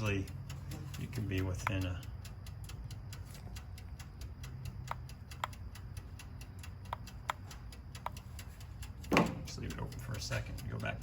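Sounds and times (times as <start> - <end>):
sharp clicks: 0.0 - 11.0
toaster oven timer ticking: 0.0 - 11.0.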